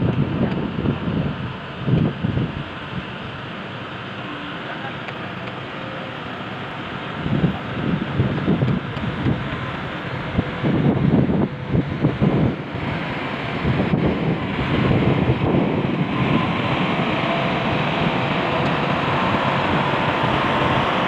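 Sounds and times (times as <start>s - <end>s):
wind buffeting microphone: 0.0s - 3.2s, 7.0s - 21.0s
heavy construction machinery rumble: 0.0s - 21.0s.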